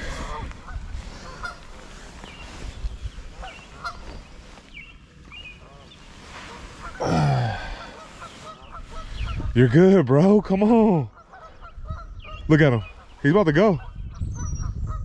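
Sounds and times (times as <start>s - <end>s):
geese honking: 0.0s - 2.6s, 3.2s - 4.7s, 5.6s - 14.0s.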